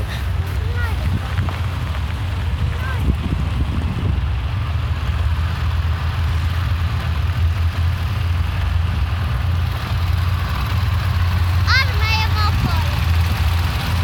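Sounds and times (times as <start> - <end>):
tracked vehicles rumbling past: 0.0 - 14.0.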